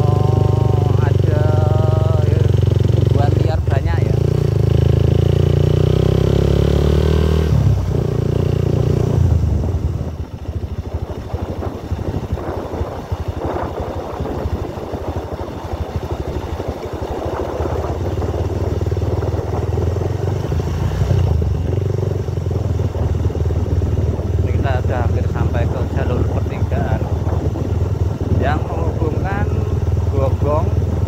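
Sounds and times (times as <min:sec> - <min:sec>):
bike and road rattling: 0:00.0 - 0:31.0
motorcycle engine running: 0:00.0 - 0:31.0.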